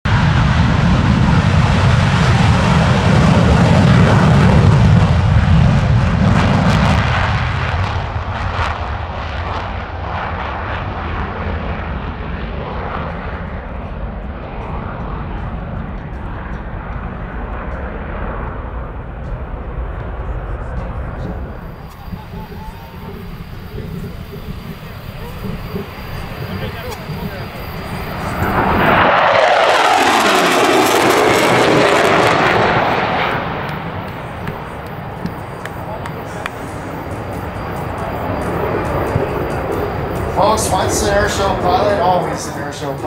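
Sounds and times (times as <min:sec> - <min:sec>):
jet engines at takeoff: 0:00.1 - 0:43.0.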